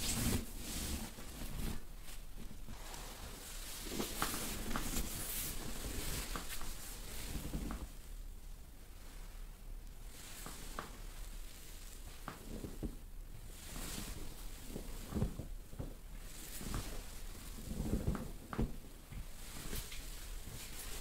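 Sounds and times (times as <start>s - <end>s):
fabric rustling: 0.0s - 21.0s.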